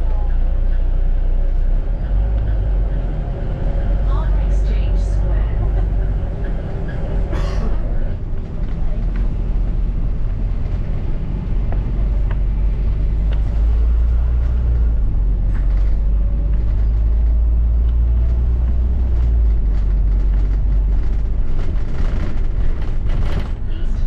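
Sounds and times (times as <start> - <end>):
bus body rattling: 0.0 - 24.0
bus engine and road rumble: 0.0 - 24.0.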